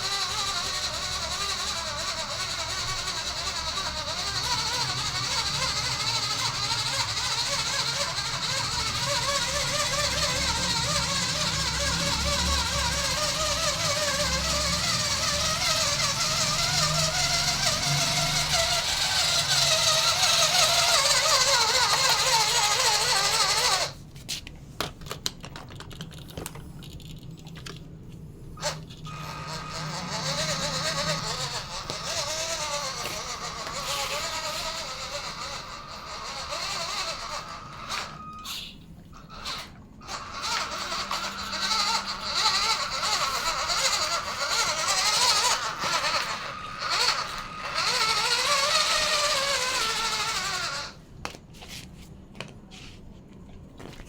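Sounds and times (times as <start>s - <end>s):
rc truck electric motor whining: 0.0s - 24.1s, 28.6s - 51.4s.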